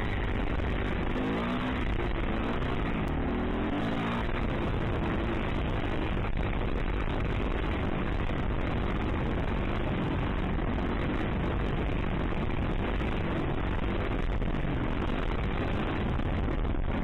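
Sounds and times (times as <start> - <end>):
dirt bike engine running: 0.0 - 17.0
wind rushing over microphone: 0.0 - 17.0.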